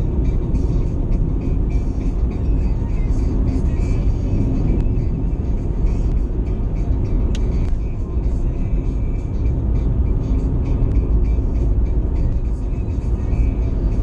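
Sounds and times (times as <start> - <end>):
car road noise at highway speed: 0.0 - 14.0.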